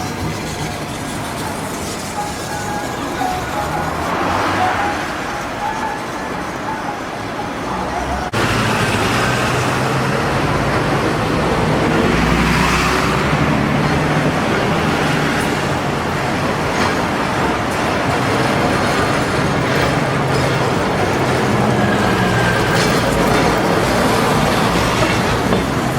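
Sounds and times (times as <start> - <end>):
city street traffic: 0.0 - 25.9
low hum of passing vehicles: 0.0 - 25.9.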